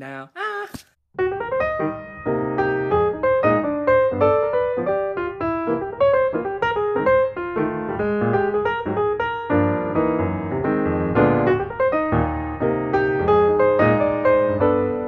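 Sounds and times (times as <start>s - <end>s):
piano music: 1.2s - 15.0s.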